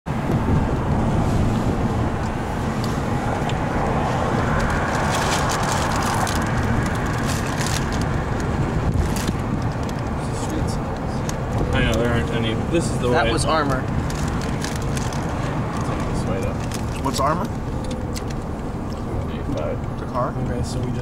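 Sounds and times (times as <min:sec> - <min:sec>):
car engine rumble: 0:00.1 - 0:21.0
tyre and wind noise: 0:00.1 - 0:21.0.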